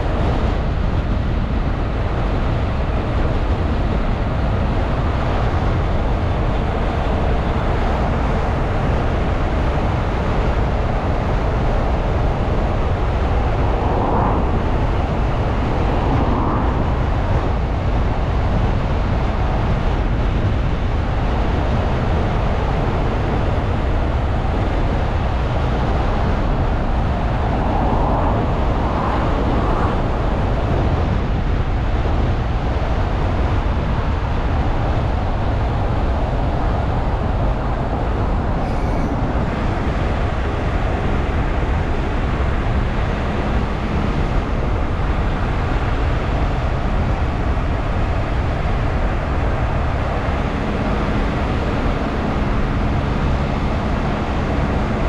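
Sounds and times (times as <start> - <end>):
car road noise: 0.0 - 55.0.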